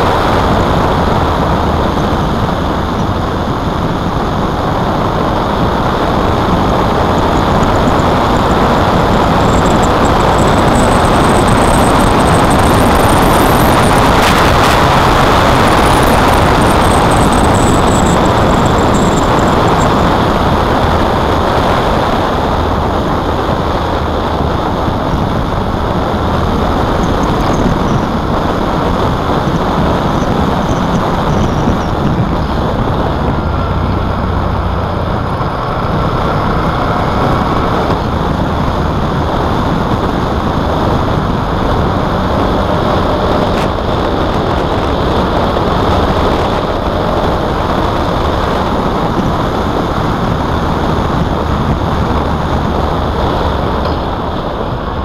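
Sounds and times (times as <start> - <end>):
motorcycle engine running: 0.0 - 55.0
wind rushing on microphone: 0.0 - 55.0.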